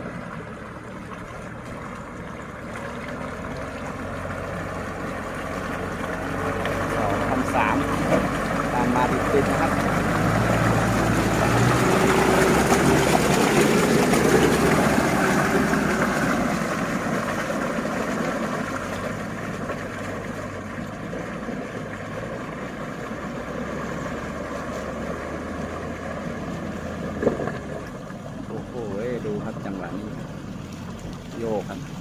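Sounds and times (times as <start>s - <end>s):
pickup truck engine under load: 0.0s - 32.0s.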